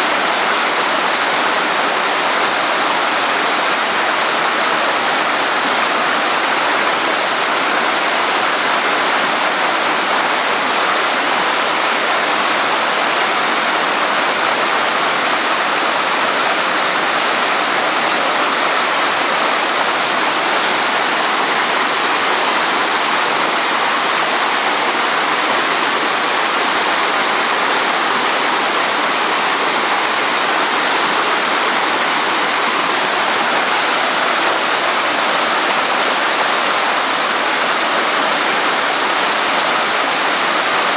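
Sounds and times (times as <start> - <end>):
fast-flowing water rushing: 0.0 - 40.9.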